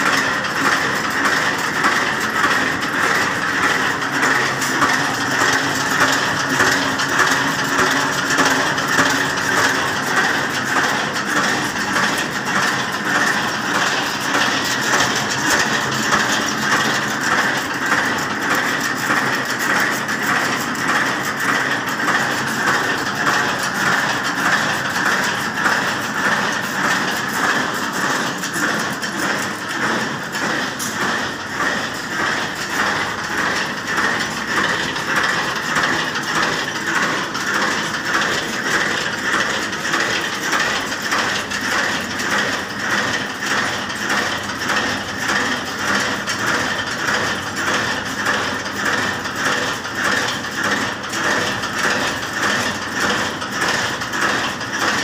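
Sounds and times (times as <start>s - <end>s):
machine clattering: 0.0s - 55.0s.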